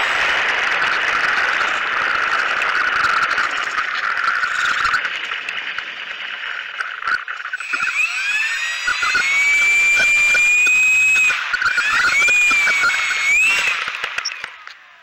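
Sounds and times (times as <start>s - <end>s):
model plane motors whirring and whining: 0.0s - 15.0s.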